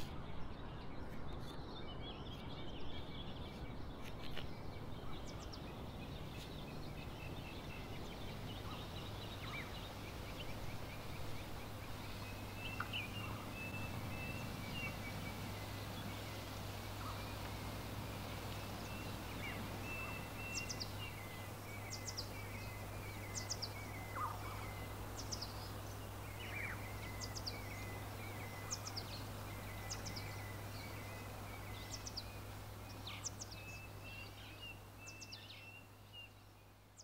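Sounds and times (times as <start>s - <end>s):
bird chirps: 0.0s - 37.0s
steady low hum: 2.4s - 36.5s.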